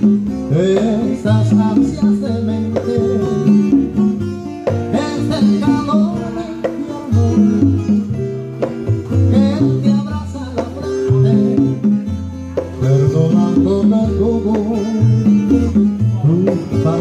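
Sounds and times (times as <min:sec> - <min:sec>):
bass line: 0:00.0 - 0:17.0
plucked strings melody: 0:00.0 - 0:17.0.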